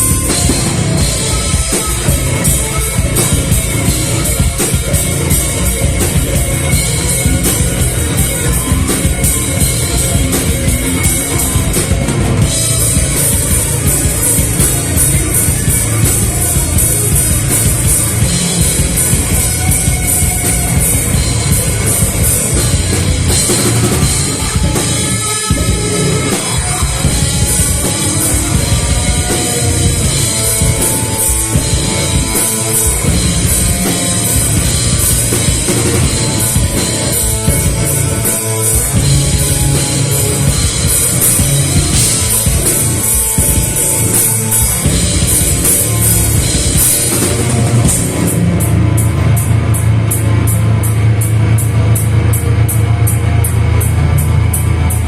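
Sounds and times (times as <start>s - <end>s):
bass drum: 0.0s - 55.0s
rock band playing live: 0.0s - 55.0s.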